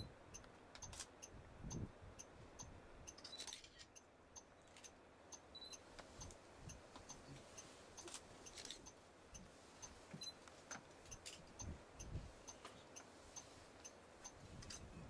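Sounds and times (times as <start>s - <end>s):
faint regular ticking: 0.0s - 15.0s.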